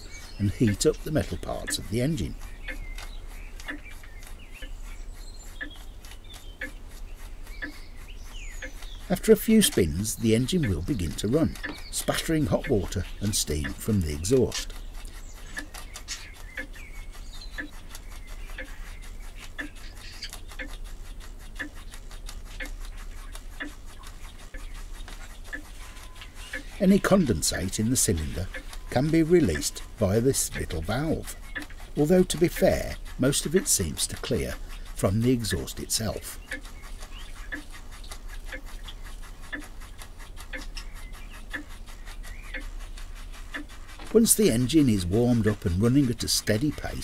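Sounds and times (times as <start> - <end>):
steam engine ticking: 0.0 - 47.0.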